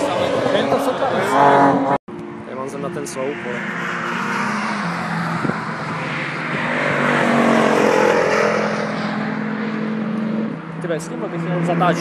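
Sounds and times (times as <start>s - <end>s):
race cars driving past: 0.0s - 12.0s.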